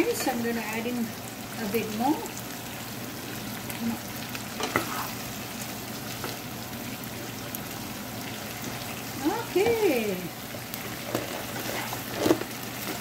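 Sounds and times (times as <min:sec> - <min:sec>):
chicken sizzling in a frying pan: 0:00.0 - 0:13.0.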